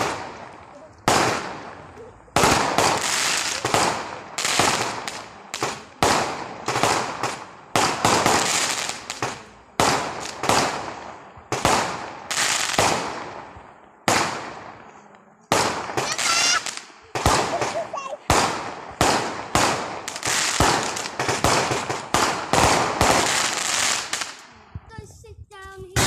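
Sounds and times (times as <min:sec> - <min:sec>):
fireworks bangs and crackle: 0:00.0 - 0:26.0.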